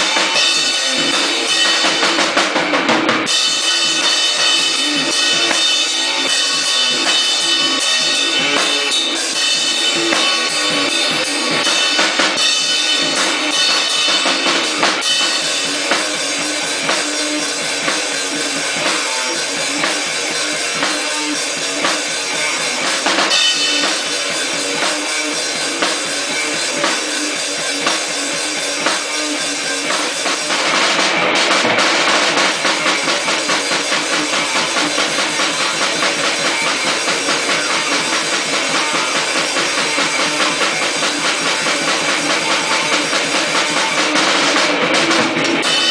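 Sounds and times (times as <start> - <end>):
distorted noise music: 0.0 - 45.9
drum kit playing: 0.0 - 45.9.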